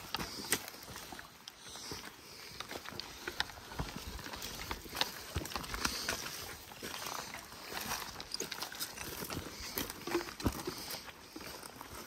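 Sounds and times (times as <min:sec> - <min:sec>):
flip-flop footsteps on dirt trail: 0:00.0 - 0:12.0.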